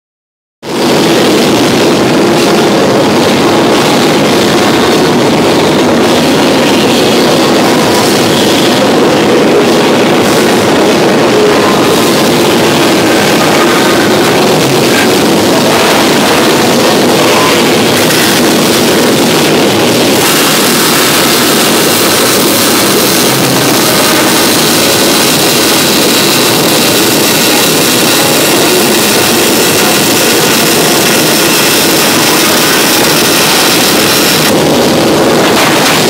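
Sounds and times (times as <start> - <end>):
workshop machinery droning: 0.6 - 36.0.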